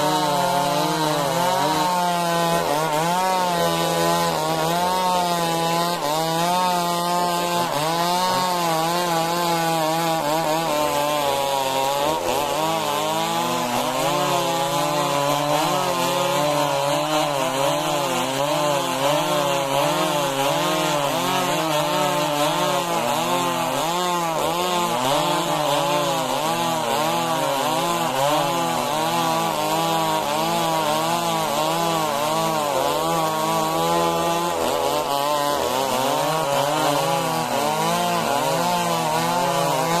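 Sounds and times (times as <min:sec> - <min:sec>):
chainsaw cutting log: 0:00.0 - 0:40.0.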